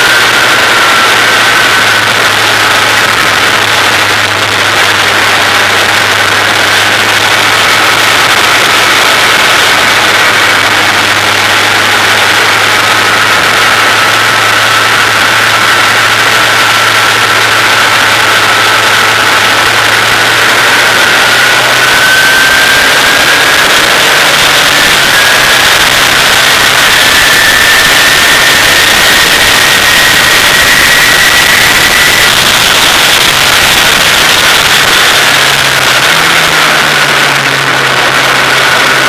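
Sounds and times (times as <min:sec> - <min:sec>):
race car engine at speed: 0:00.0 - 0:39.0
wind rush and road noise: 0:00.0 - 0:39.0.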